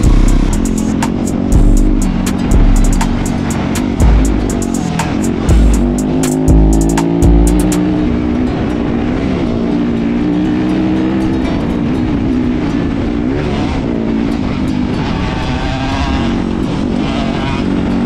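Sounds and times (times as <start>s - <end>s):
dirt bike engine running: 0.0s - 18.0s
rush of riding noise: 0.0s - 18.0s.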